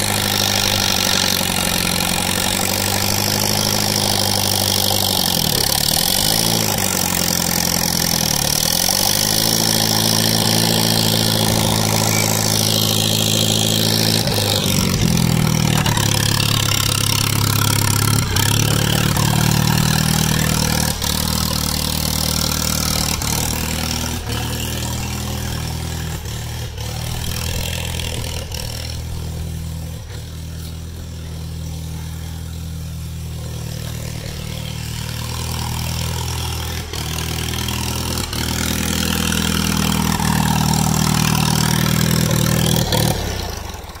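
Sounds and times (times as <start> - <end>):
tractor engine idling: 0.0 - 44.0.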